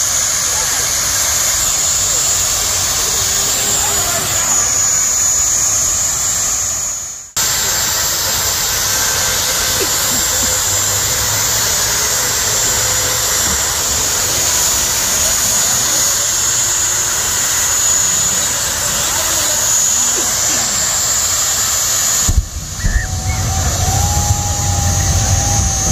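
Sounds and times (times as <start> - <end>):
jet turbine engine roaring: 0.0 - 25.9.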